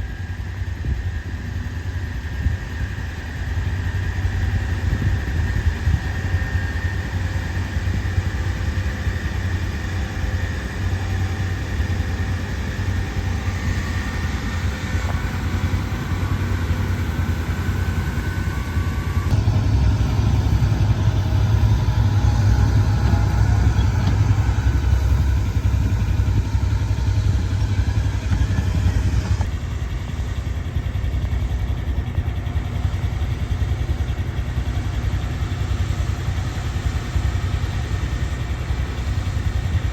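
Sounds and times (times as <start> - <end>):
tractor diesel engine rumbling: 0.0 - 39.9.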